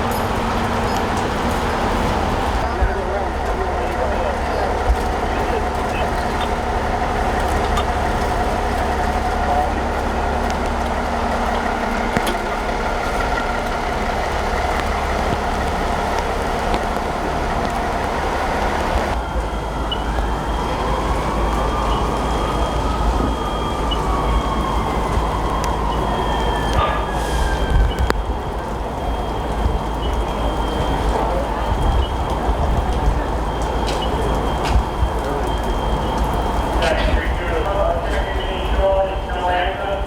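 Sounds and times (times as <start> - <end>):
heavy diesel engines rumbling: 0.0 - 40.0.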